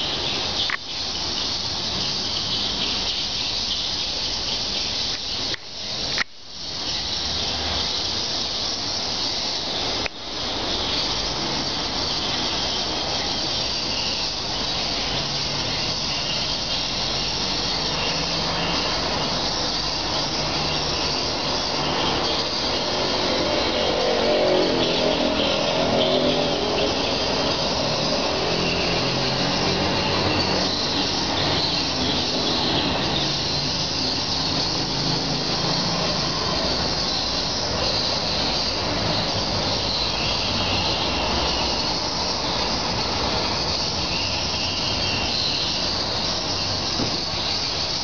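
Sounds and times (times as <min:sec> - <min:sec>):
high hiss: 0:00.0 - 0:48.0.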